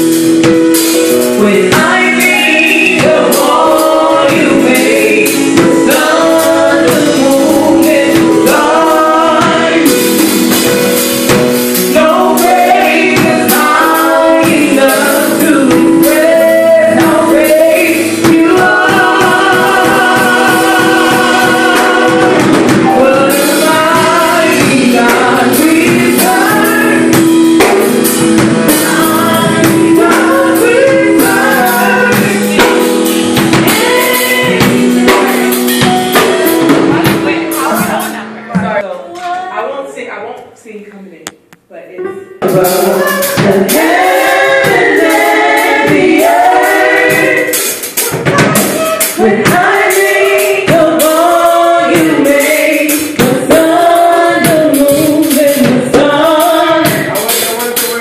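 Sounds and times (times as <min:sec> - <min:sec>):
choir singing gospel in harmony: 0:00.0 - 0:38.8, 0:42.4 - 0:58.0
sustained backing music: 0:00.0 - 0:58.0.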